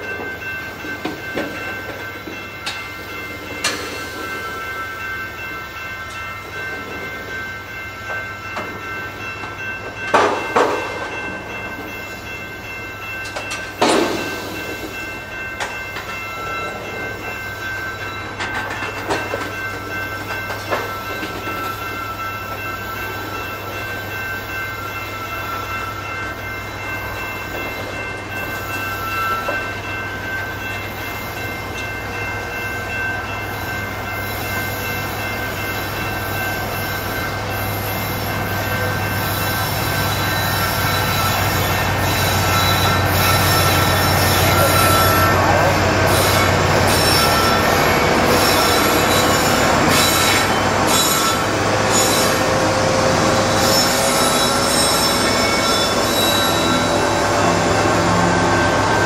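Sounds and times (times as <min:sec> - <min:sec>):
freight train rolling on rails: 0:00.0 - 0:59.0.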